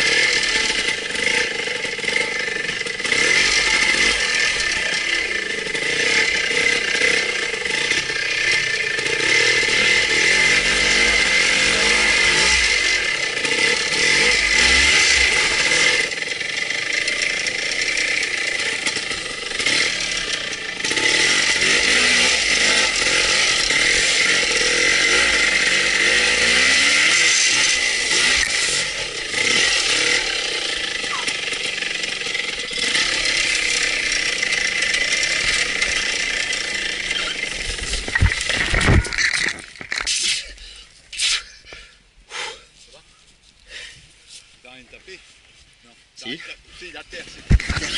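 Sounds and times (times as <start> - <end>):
motorcycle engine revving: 0.0 - 40.1, 47.0 - 47.9.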